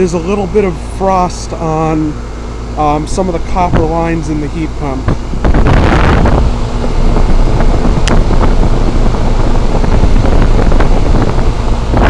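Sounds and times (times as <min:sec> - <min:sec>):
fan air buffeting microphone: 0:00.0 - 0:12.0
heat pump low rumble: 0:00.0 - 0:12.0.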